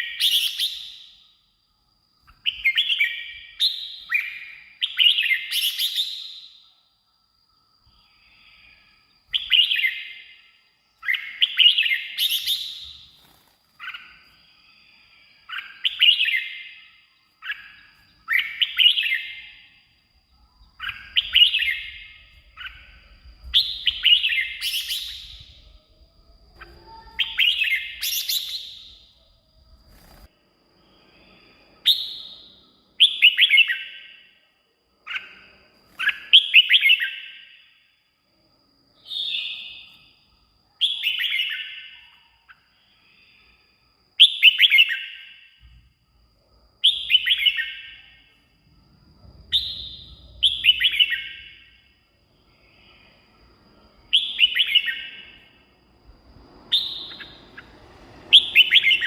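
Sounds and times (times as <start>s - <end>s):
bird whistled song phrases: 0.0s - 1.3s, 2.3s - 6.7s, 7.9s - 29.3s, 29.9s - 34.4s, 35.0s - 37.9s, 38.9s - 43.4s, 44.2s - 45.6s, 46.8s - 48.4s, 49.3s - 51.9s, 54.1s - 55.7s, 56.6s - 59.0s.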